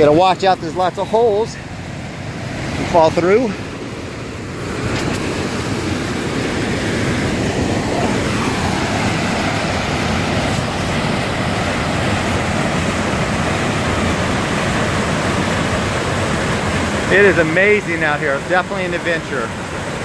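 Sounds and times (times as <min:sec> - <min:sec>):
creek rushing over boulders: 0:00.0 - 0:20.0.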